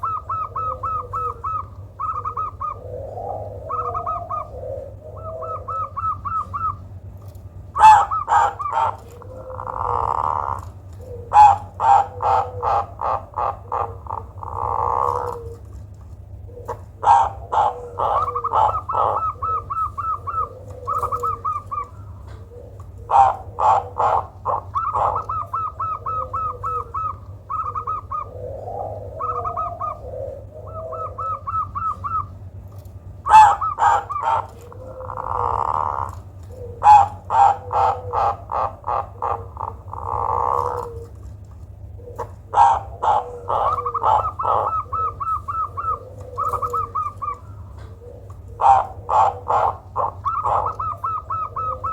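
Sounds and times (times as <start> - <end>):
dove calling: 0.0 - 51.9.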